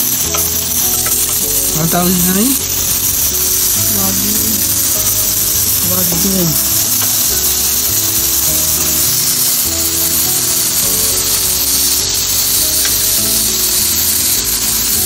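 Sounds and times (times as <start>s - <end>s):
background music: 0.0s - 15.0s
meat sizzling on grill: 0.0s - 15.0s.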